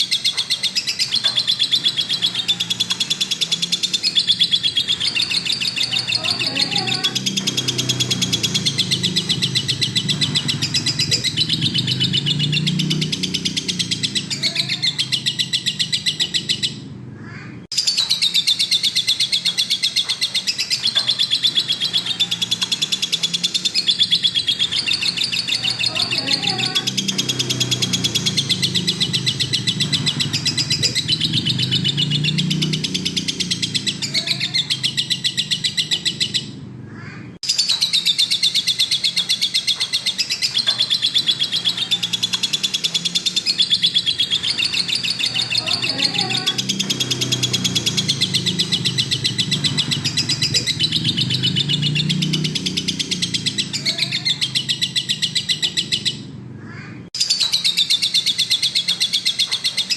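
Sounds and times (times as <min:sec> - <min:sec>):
lovebird chattering trill: 0:00.0 - 0:59.9.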